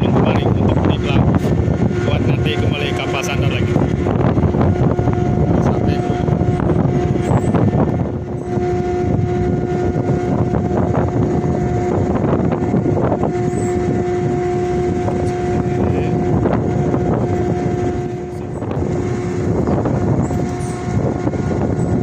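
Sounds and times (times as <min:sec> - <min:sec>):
humming whine: 0:00.0 - 0:22.0
machinery drone: 0:00.0 - 0:22.0.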